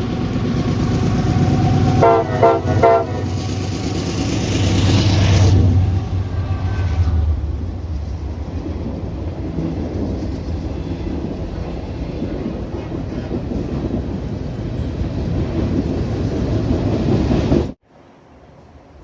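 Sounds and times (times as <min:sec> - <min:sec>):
train wheels rumbling on rail: 0:00.0 - 0:17.8.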